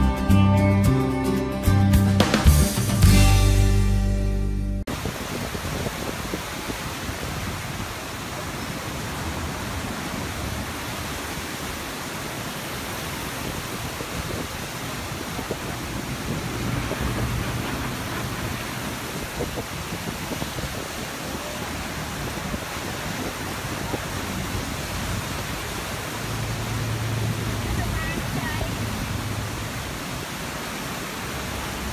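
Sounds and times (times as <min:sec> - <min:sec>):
water rushing through spillway: 0:04.9 - 0:31.9.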